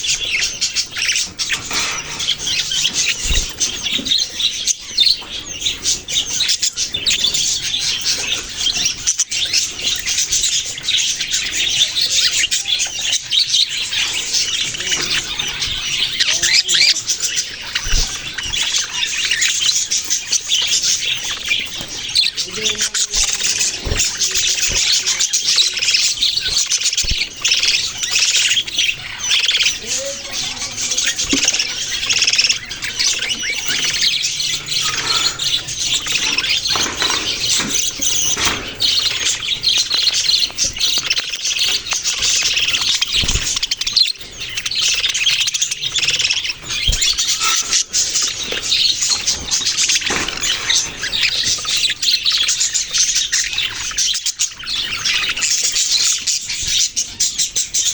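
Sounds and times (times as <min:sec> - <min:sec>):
parrots chirping and squawking: 0:00.0 - 0:57.9.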